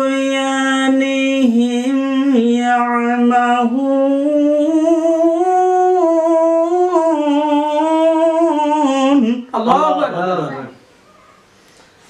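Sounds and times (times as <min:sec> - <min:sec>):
man chanting melodic recitation: 0:00.0 - 0:10.8.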